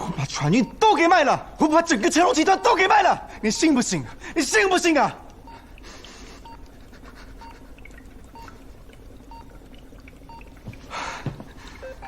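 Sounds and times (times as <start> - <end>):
patient monitor beeping: 0.0 - 6.8, 7.4 - 7.6, 8.2 - 10.8, 11.6 - 12.0
low steady hum: 0.0 - 12.0.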